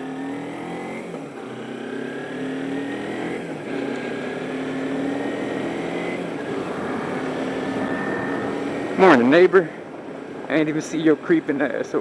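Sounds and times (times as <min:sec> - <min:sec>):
motorcycle engine accelerating: 0:00.0 - 0:10.0
wind and road noise: 0:00.0 - 0:12.0.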